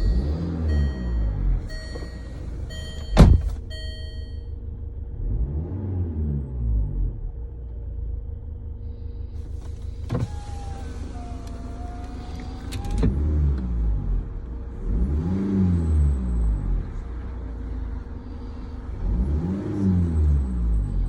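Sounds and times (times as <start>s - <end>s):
car engine revving: 0.0s - 3.6s, 5.1s - 7.2s, 8.9s - 21.0s.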